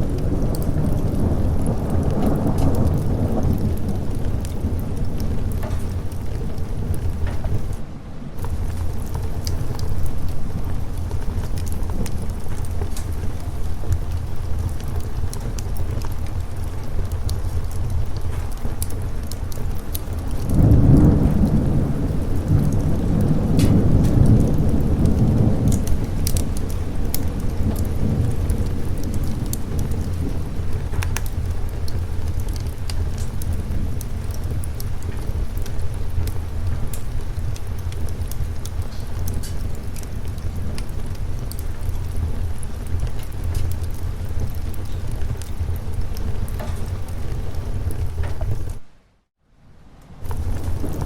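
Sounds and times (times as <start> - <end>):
sharp crackles: 0.0 - 7.8, 8.4 - 49.0, 50.1 - 51.0
rolling thunder rumble: 0.0 - 48.9, 50.2 - 51.0
heavy rain: 0.0 - 51.0.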